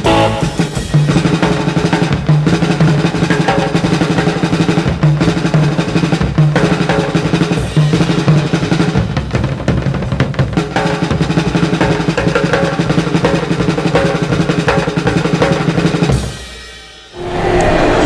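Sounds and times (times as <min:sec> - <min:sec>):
music with prominent drums: 0:00.0 - 0:17.2.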